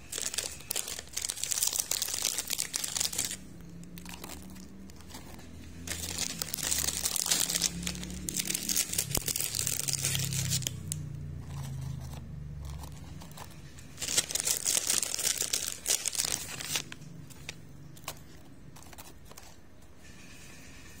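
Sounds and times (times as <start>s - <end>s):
wafer biscuits rustling in plastic tub: 0.0s - 19.6s.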